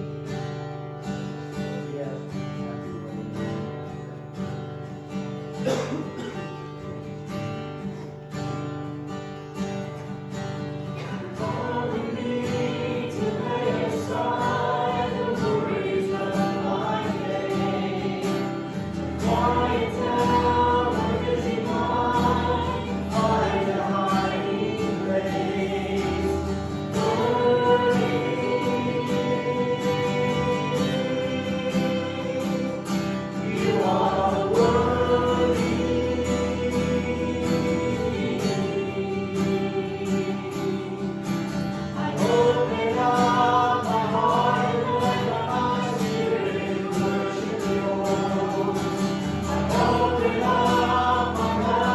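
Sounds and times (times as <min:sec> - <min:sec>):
strummed acoustic guitar: 0:00.0 - 0:51.9
group singing: 0:05.6 - 0:06.4, 0:10.8 - 0:51.9.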